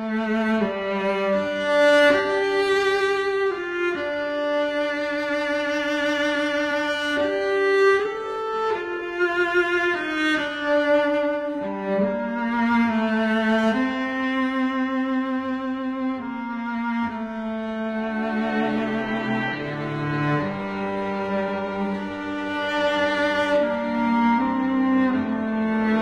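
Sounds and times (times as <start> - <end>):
string music with violin and cello: 0.0 - 26.0.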